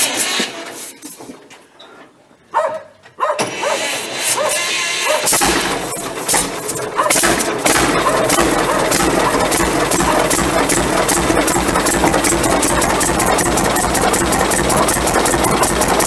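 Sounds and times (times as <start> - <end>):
tractor engine starting and running: 0.0 - 1.7, 3.3 - 16.0.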